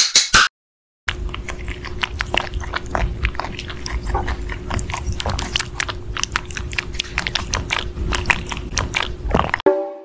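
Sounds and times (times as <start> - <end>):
rabbit chewing strawberries: 1.1 - 9.6.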